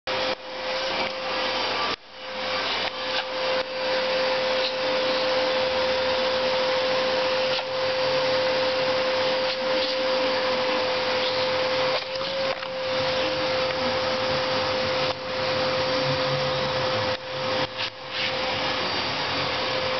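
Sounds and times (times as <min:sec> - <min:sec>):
vacuum cleaner whining: 0:00.1 - 0:19.9.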